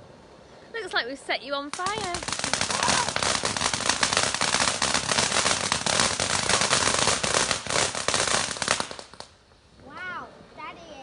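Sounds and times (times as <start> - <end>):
firework crackling: 0.8 - 11.0.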